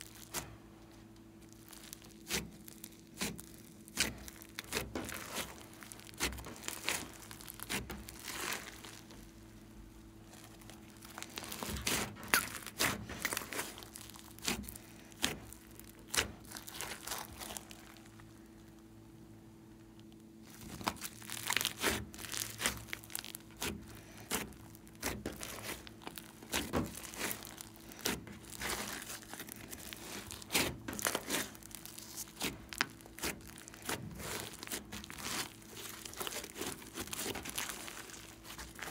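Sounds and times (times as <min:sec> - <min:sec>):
slime crackling and squishing: 0:00.0 - 0:38.9.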